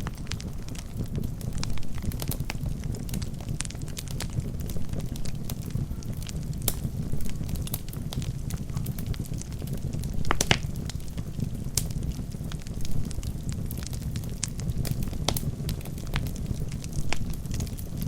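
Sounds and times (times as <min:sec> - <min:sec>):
fire rumbling in fireplace: 0:00.0 - 0:18.0
logs crackling and popping: 0:00.0 - 0:18.0.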